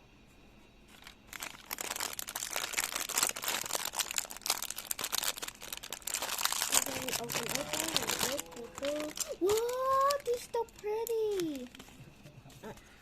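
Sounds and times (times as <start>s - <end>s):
plastic packaging crinkling: 0.9s - 12.0s.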